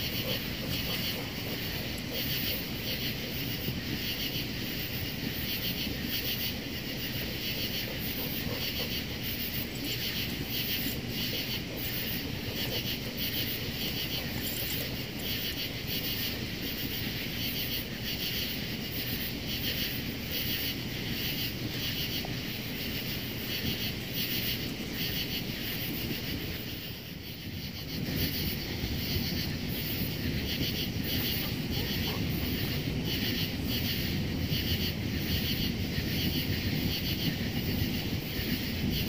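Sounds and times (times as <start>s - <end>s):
insects chirping rhythmically: 0.0s - 39.0s.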